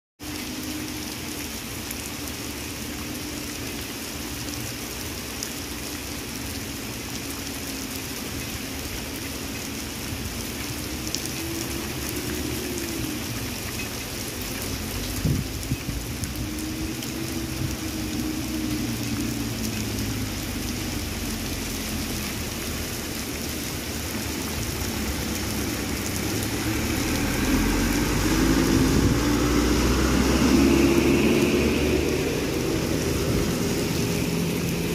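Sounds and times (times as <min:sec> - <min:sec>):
heavy rain on road: 0:00.2 - 0:34.9
passing traffic hum: 0:00.2 - 0:34.9
truck driving on wet road: 0:00.2 - 0:34.9.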